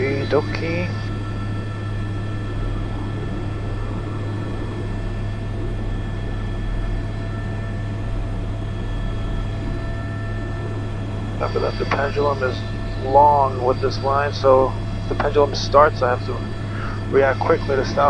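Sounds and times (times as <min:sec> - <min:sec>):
helicopter rotor and turbine drone: 0:00.0 - 0:18.0.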